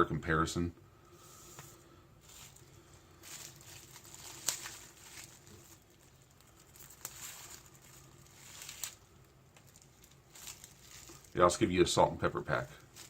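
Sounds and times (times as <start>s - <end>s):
packaging rustling and crinkling: 1.2s - 11.6s, 12.6s - 13.0s.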